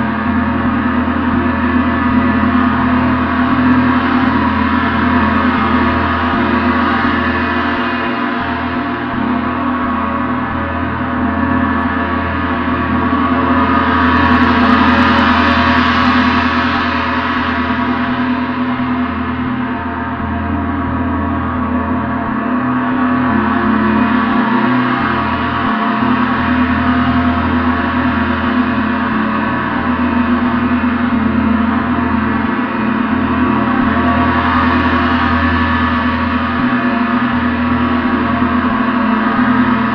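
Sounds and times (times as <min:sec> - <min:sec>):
gong ringing: 0:00.0 - 0:39.9.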